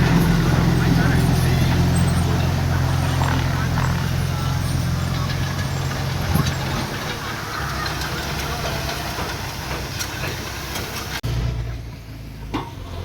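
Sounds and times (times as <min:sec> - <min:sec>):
light metal clanks: 0:00.0 - 0:11.2
diesel engine humming: 0:00.0 - 0:13.0.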